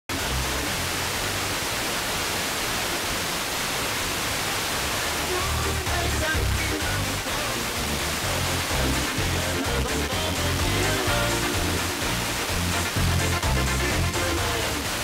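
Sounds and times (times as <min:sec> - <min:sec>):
faint music through static: 0:00.1 - 0:15.0
radio static hiss: 0:00.1 - 0:15.0.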